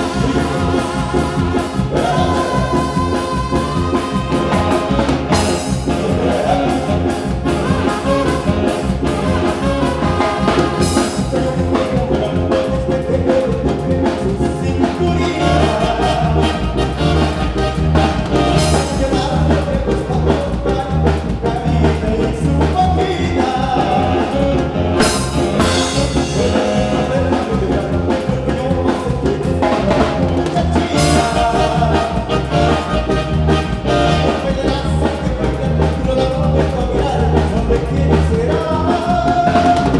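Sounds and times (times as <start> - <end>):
horns: 0.0 - 12.9, 14.1 - 20.1, 21.4 - 37.2
drum kit beat: 0.0 - 39.9
person singing: 0.0 - 39.9.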